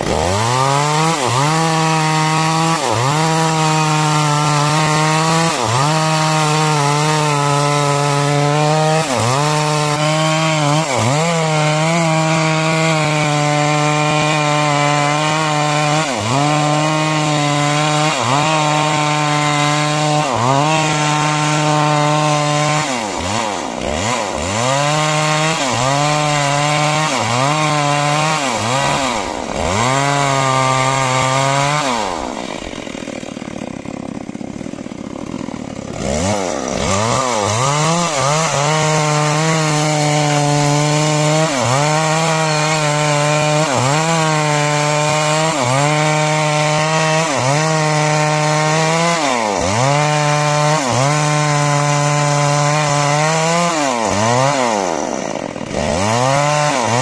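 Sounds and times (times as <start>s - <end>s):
chainsaw cutting timber: 0.0s - 57.0s.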